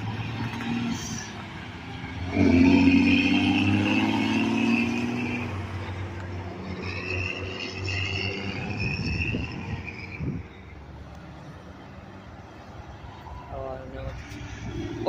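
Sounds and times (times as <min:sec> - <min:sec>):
steady traffic rumble: 0:00.0 - 0:15.0.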